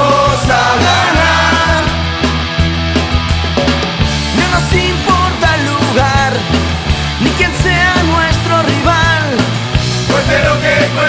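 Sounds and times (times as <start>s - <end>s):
rock band with drums and bass: 0.0s - 11.0s.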